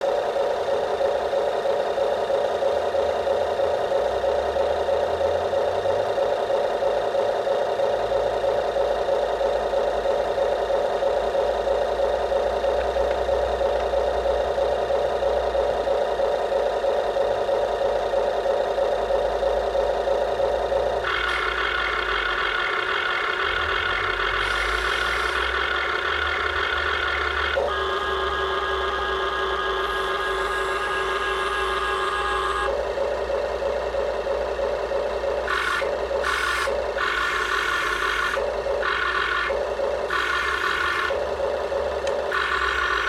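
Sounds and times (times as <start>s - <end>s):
toy backhoe engine idling: 0.0s - 43.0s.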